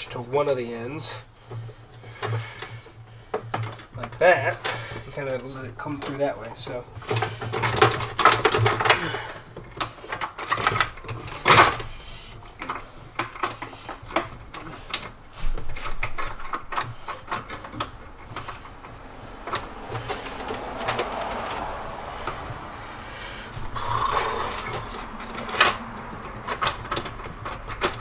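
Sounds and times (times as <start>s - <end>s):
wiring harness scraping plastic trim: 1.5s - 22.9s, 23.5s - 28.0s.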